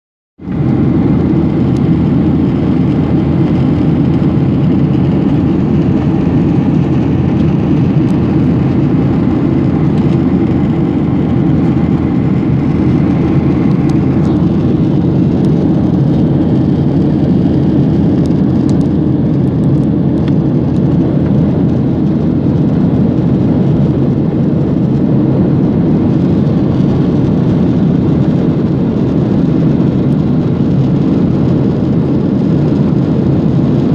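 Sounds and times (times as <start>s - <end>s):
airliner cabin drone: 0.4s - 33.9s.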